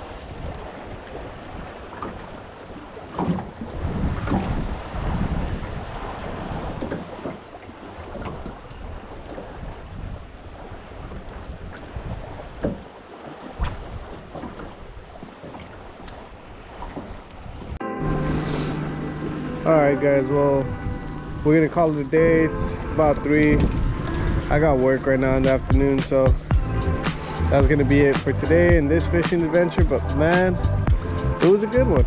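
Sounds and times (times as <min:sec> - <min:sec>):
wind buffeting microphone: 0:00.0 - 0:17.8, 0:20.0 - 0:28.9
water lapping against boat: 0:00.0 - 0:31.8.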